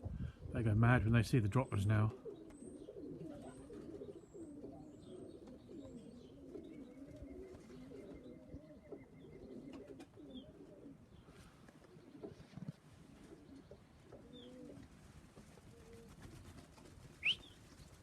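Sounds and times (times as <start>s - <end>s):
pigeons cooing softly: 0.0s - 18.0s.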